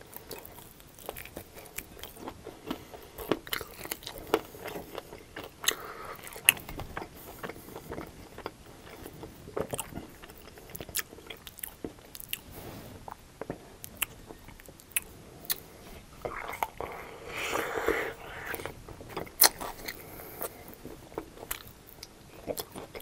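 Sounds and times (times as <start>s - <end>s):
crunchy chewing: 0.0s - 23.0s.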